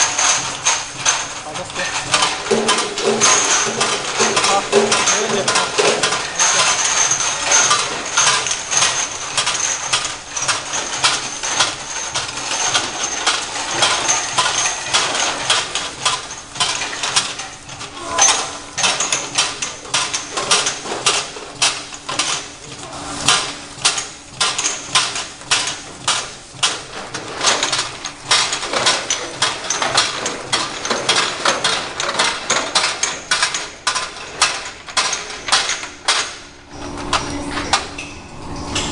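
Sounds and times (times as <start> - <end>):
bottles clinking on conveyor: 0.0 - 38.9
steady machine hum: 0.0 - 38.9.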